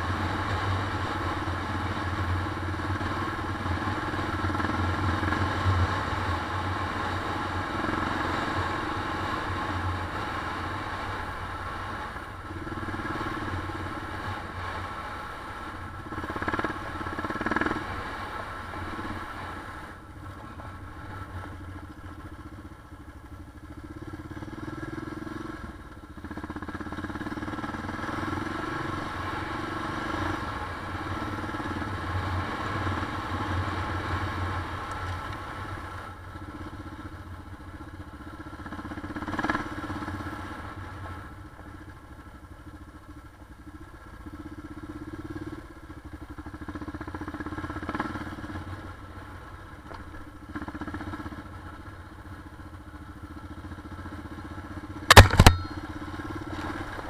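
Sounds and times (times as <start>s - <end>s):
motorcycle engine revving: 0.0s - 22.7s, 23.6s - 37.2s, 38.2s - 41.0s, 44.2s - 57.0s.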